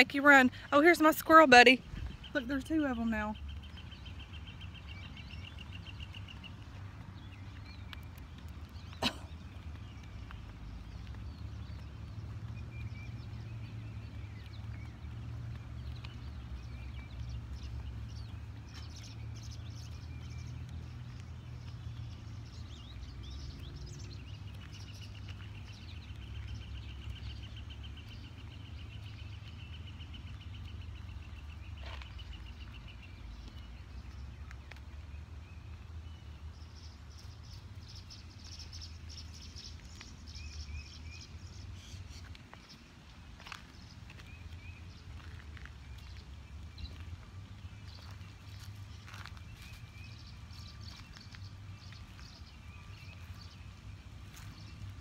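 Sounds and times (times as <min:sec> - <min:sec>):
wild birds chirping and singing: 0:00.0 - 0:55.0.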